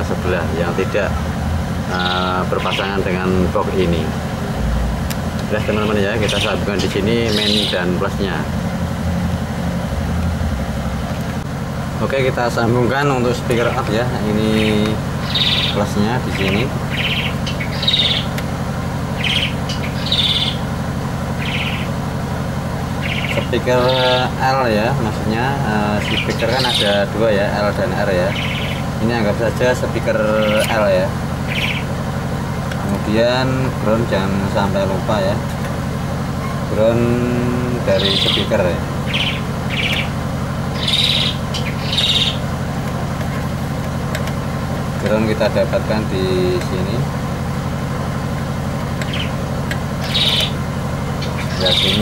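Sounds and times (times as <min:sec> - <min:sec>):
steady low hum: 0:00.0 - 0:52.0
bird chirping in trilled bursts: 0:01.8 - 0:04.2, 0:05.5 - 0:08.5, 0:12.4 - 0:35.4, 0:36.3 - 0:42.8, 0:43.6 - 0:52.0.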